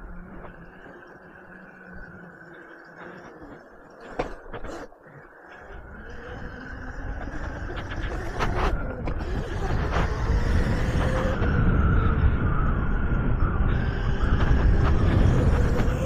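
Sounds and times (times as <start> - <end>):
faint electric motor whine: 0.0 - 16.0
wind and riding rumble: 0.0 - 16.0.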